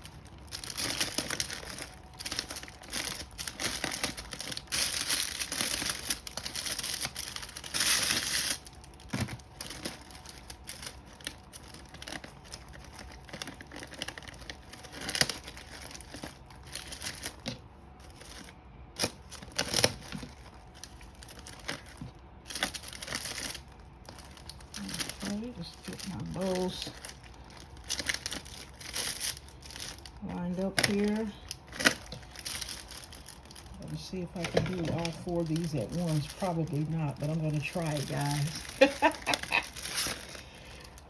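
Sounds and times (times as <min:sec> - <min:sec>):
gift wrap crinkling: 0:00.0 - 0:41.0.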